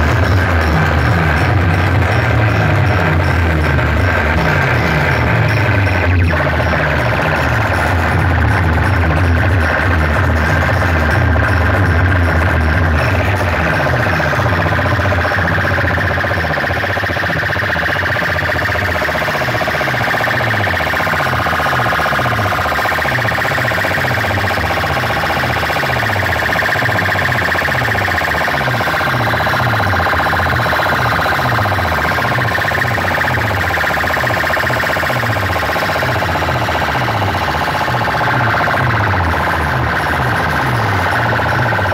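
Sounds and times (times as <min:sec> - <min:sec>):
loud distorted electronic music: 0:00.0 - 0:41.9.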